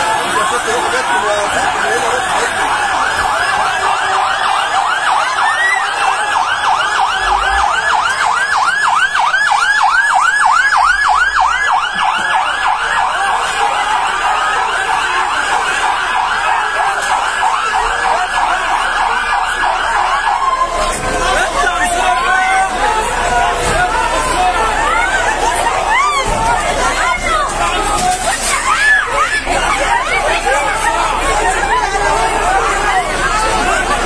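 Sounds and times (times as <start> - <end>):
fire engine siren yelping: 0.0 - 34.0.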